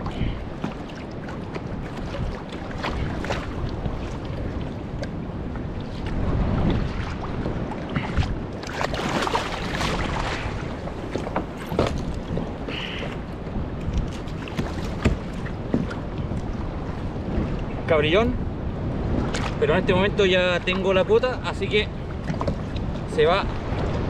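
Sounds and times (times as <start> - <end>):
water splashing around kayak: 0.0 - 24.0
wind buffeting microphone: 0.0 - 24.0.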